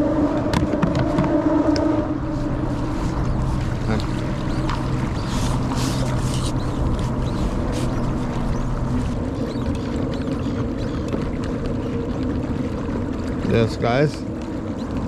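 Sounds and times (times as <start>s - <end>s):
low hum: 0.0s - 15.0s
water splashes: 0.0s - 15.0s
wind and water around hull: 0.0s - 15.0s.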